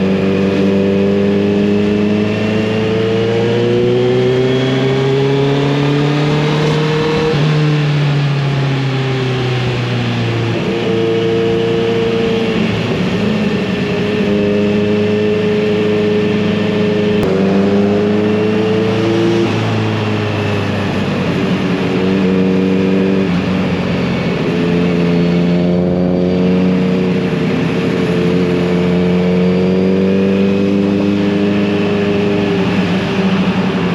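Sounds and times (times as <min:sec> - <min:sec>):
motorcycle exhaust accelerating: 0:00.0 - 0:33.9.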